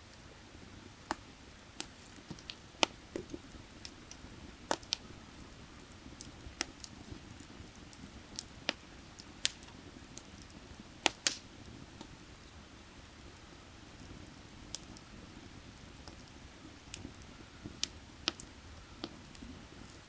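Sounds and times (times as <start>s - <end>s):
firewood crackling and popping: 0.1s - 20.0s.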